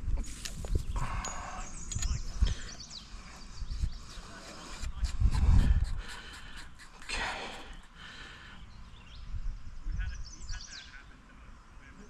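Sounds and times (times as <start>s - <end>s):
bird chirping: 0.6s - 12.0s.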